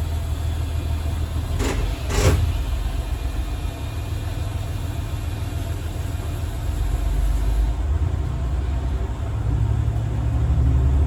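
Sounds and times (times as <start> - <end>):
railcar engine and wheels rumbling: 0.0 - 11.0.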